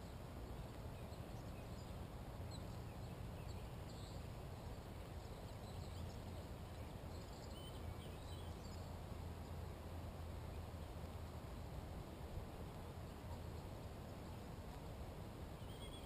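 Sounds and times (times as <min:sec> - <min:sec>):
distant songbirds chirping: 0:00.0 - 0:16.0.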